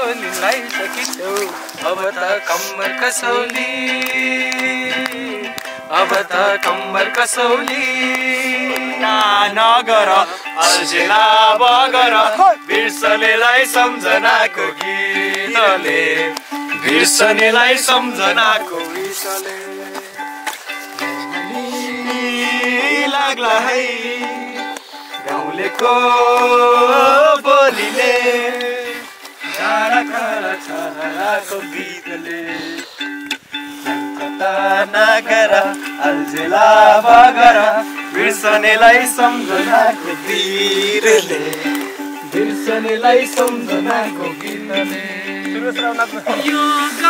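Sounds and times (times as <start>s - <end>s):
person singing: 0.0s - 33.3s, 33.9s - 47.0s
held instrumental notes: 0.0s - 47.0s.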